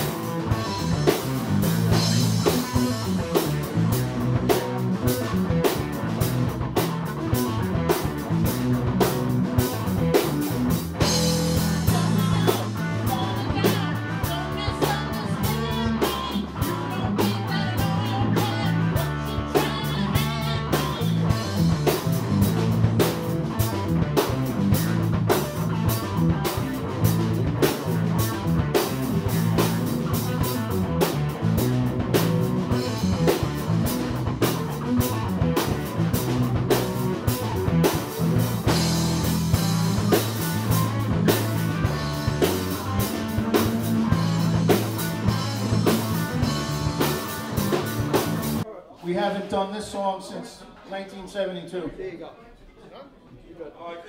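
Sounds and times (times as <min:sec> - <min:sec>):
electric guitar: 0:00.0 - 0:48.6
bass guitar: 0:00.0 - 0:48.7
drum kit beat: 0:00.0 - 0:48.7.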